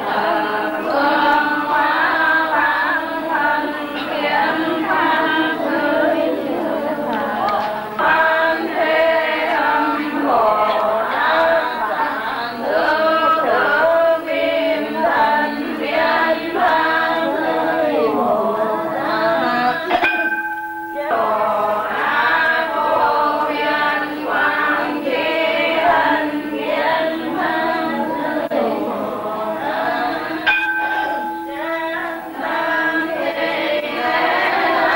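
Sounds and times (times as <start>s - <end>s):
voices singing a chant: 0.0s - 34.9s.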